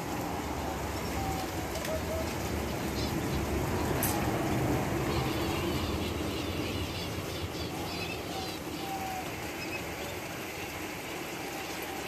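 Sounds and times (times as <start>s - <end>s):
small birds chirping: 0.9s - 12.0s.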